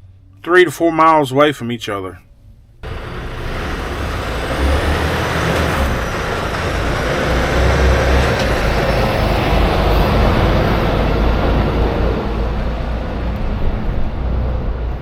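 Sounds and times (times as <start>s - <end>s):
road noise: 2.4s - 15.0s
truck engine rumble: 2.5s - 15.0s.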